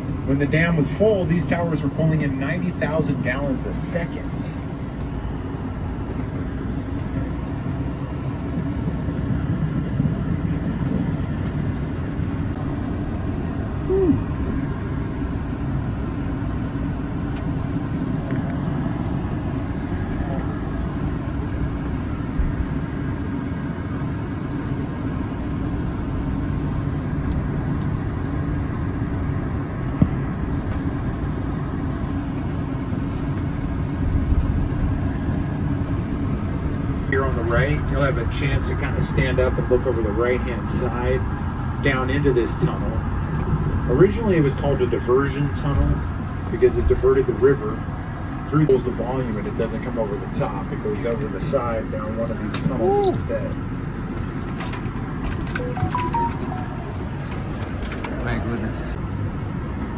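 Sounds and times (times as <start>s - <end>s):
road noise: 0.0s - 59.9s
vehicle engine rumble: 0.0s - 59.9s.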